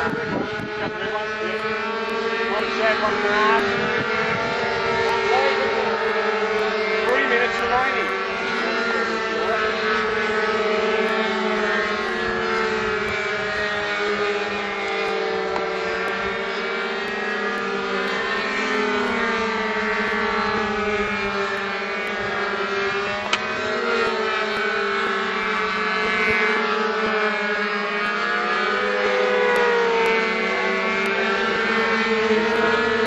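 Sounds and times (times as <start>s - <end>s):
model plane engines overhead: 0.0s - 33.0s.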